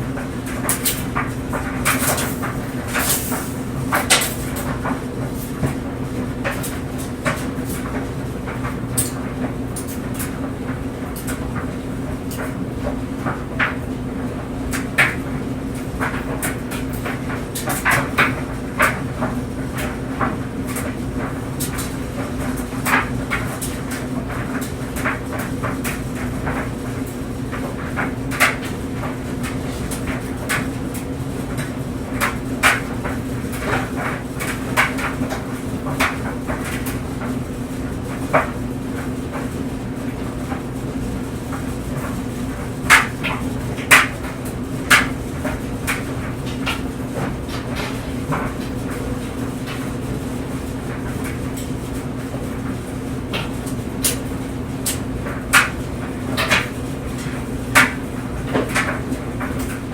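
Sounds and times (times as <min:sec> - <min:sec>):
clothes dryer humming: 0:00.0 - 0:59.9
clothes knocking in dryer drum: 0:00.0 - 0:59.9.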